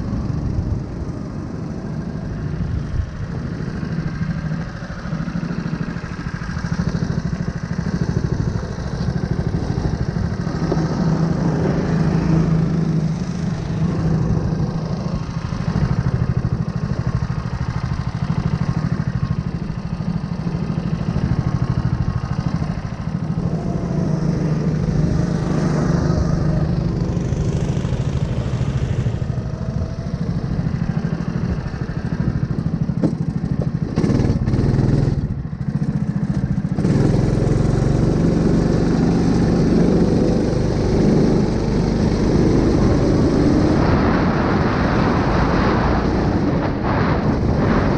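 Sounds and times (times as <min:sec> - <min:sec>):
single-cylinder engine running: 0:00.0 - 0:47.9.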